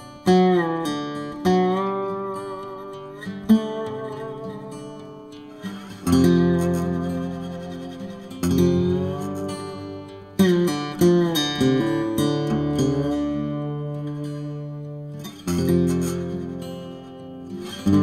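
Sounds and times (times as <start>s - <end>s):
acoustic guitar strummed chords: 0.0s - 18.0s.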